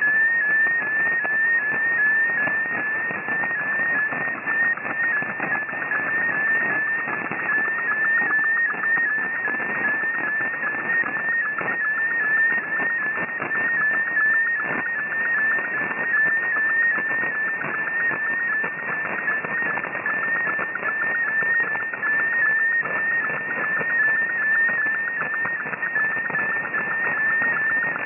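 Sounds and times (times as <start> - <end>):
radio band hiss: 0.0 - 28.0.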